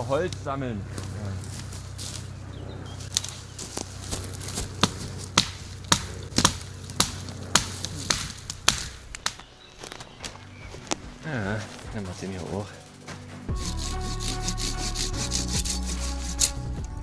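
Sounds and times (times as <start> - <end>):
dry wood cracking: 0.0 - 2.3, 3.0 - 16.6.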